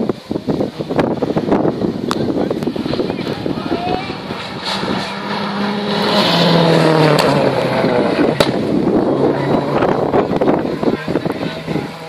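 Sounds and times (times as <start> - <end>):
rally car engine: 0.0 - 12.0.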